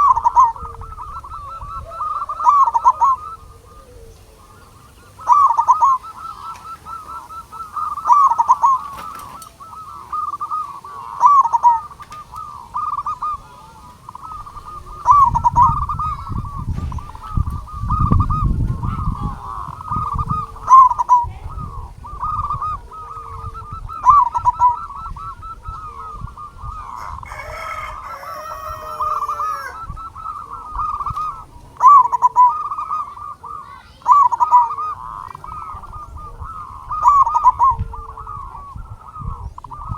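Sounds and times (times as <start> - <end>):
bird call with rising notes: 0.0 - 39.9
dove cooing: 0.0 - 39.9.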